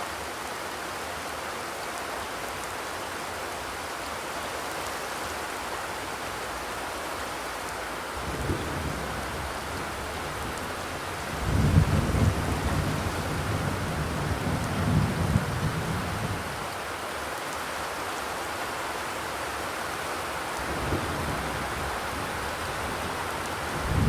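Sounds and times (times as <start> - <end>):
rain on a metal roof: 0.0 - 24.0.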